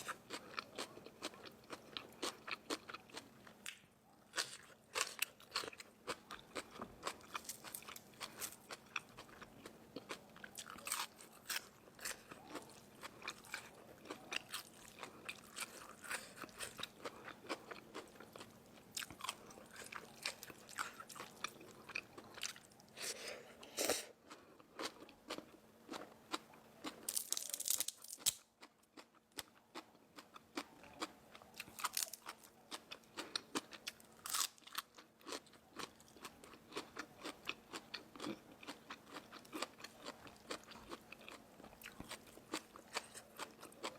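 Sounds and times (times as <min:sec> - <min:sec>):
crunching crispy food: 0:00.0 - 0:22.8, 0:24.3 - 0:43.9.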